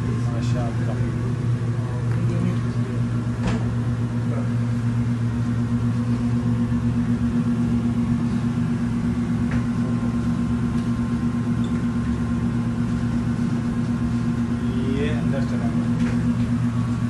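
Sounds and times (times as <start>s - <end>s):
constant hum: 0.0s - 17.0s
kitchen equipment machine drone: 0.0s - 17.0s.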